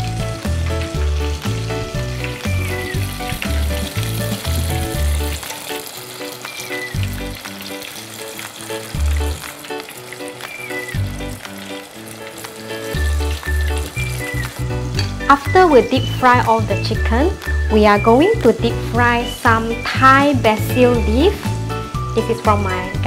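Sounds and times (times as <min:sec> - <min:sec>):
chicken deep frying in oil: 0:00.0 - 0:23.0.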